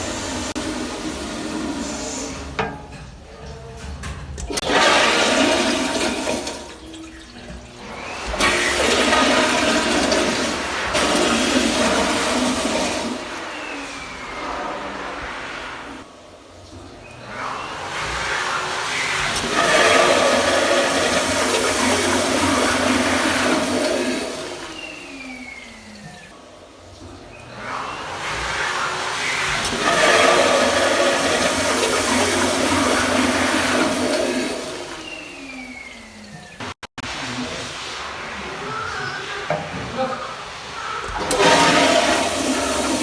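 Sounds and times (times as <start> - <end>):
toilet flushing: 0.0 - 43.0.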